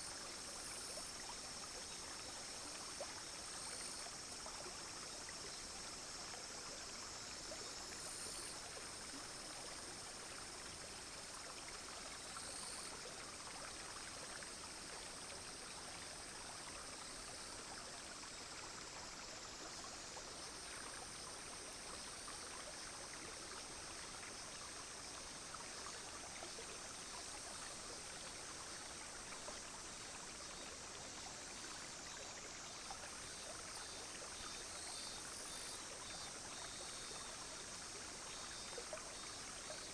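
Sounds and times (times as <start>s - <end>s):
brook flowing and trickling: 0.0s - 39.9s.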